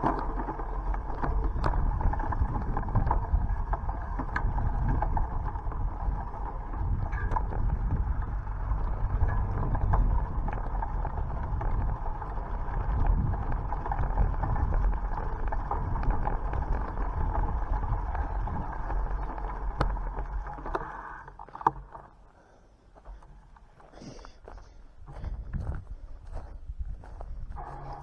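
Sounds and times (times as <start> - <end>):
wind rumbling on microphone: 0.0 - 22.0, 24.4 - 28.0
tyres rolling on road: 0.0 - 22.4.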